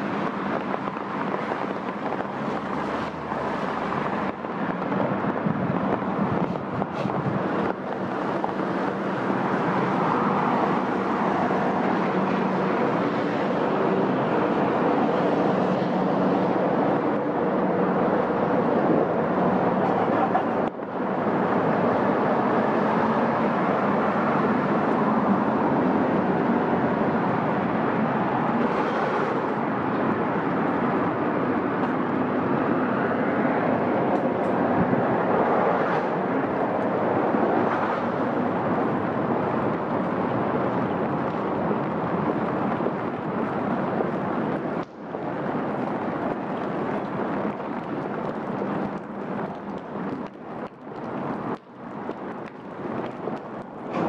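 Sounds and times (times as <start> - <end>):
passing traffic hum: 0.0 - 54.0
rain falling on street: 0.0 - 54.0.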